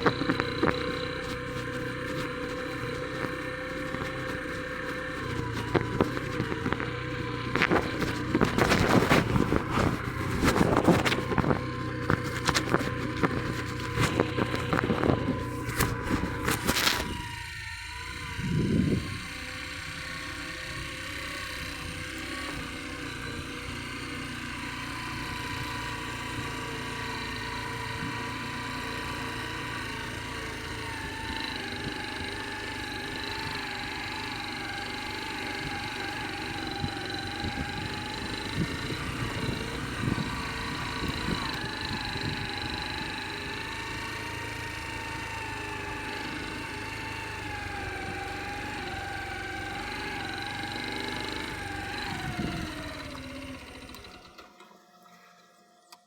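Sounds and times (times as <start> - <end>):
engine humming: 0.0 - 54.5.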